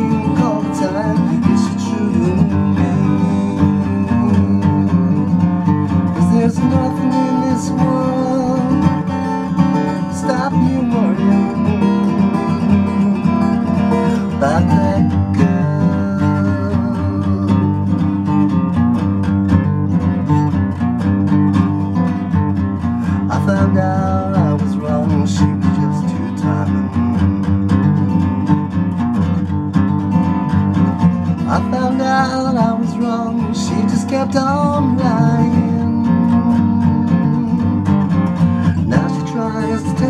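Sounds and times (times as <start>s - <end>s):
man singing: 0.0s - 19.1s, 22.2s - 28.3s, 30.7s - 40.0s
acoustic guitar strumming: 0.0s - 40.0s.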